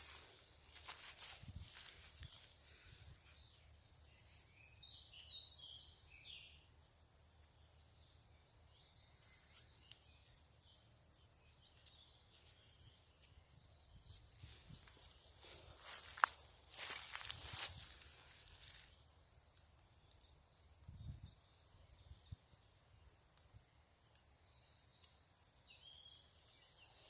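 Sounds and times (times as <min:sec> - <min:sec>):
wild birds chirping: 0:00.0 - 0:27.0.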